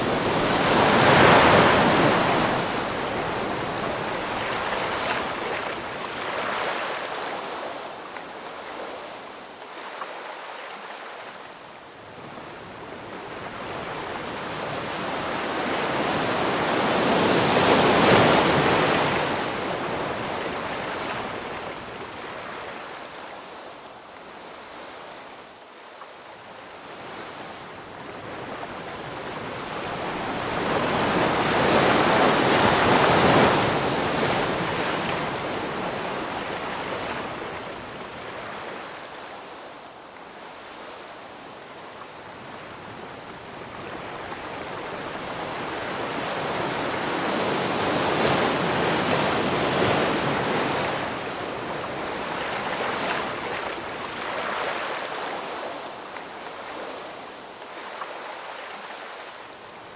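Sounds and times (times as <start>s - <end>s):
ocean waves: 0.0s - 25.5s, 26.5s - 59.9s.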